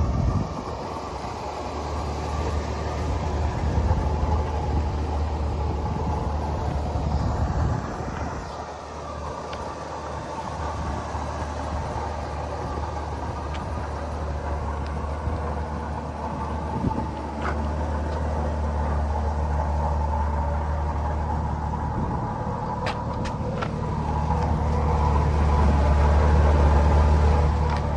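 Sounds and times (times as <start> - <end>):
pickup truck engine running: 0.0 - 27.9.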